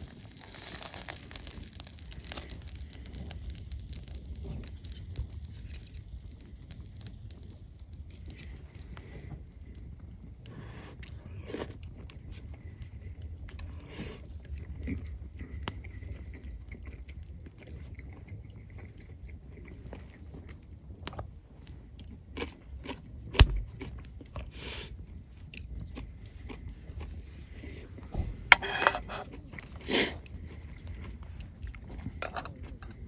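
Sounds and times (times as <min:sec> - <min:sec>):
low outdoor rumble: 0:00.0 - 0:33.0
person crunching and chewing: 0:00.0 - 0:33.0.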